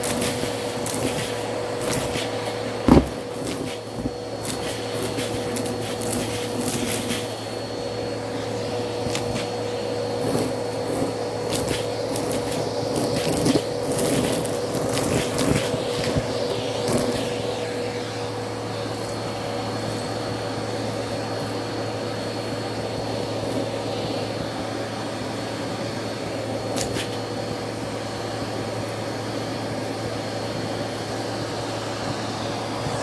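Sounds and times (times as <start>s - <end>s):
vacuum cleaner running: 0.0s - 33.0s.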